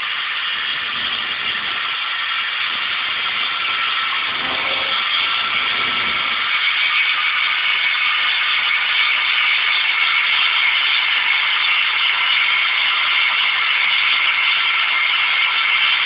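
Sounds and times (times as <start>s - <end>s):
small lathe whirring: 0.0s - 16.0s.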